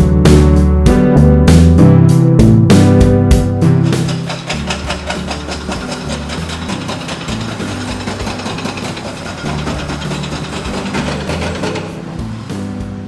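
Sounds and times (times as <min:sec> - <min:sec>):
music with bass line and beat: 0:00.0 - 0:13.0.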